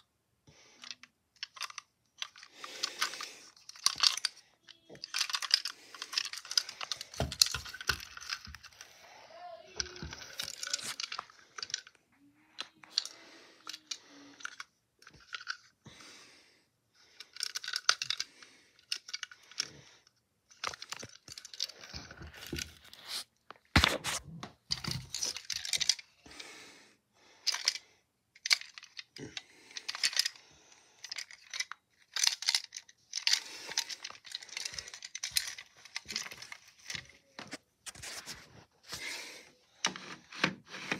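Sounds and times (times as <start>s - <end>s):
rustling and crinkling: 0.8s - 15.8s, 17.2s - 26.1s, 28.4s - 40.9s.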